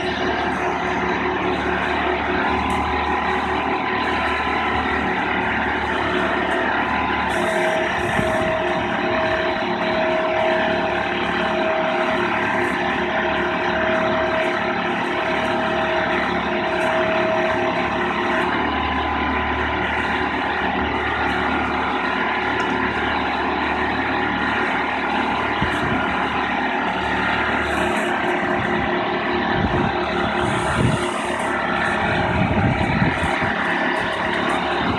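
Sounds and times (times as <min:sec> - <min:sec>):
boat hoist engine running: 0:00.0 - 0:34.9
high whine: 0:00.0 - 0:34.9.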